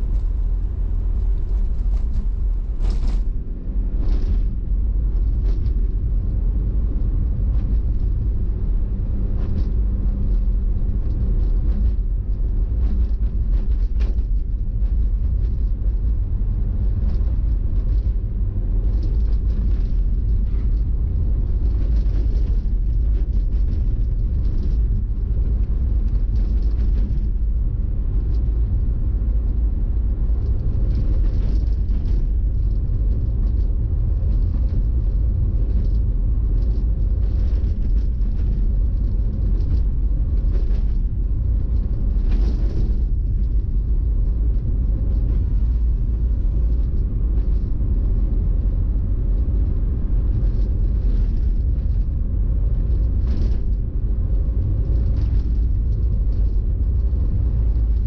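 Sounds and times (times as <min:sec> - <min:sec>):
car driving on road rumble: 0:00.0 - 0:58.0.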